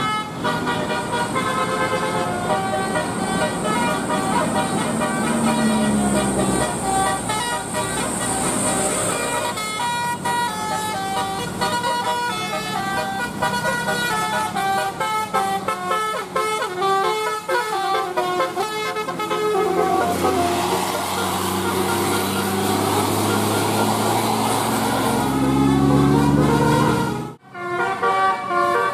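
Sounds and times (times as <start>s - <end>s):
bus engine running: 0.0s - 28.9s
melodic bus air horn: 0.0s - 28.9s.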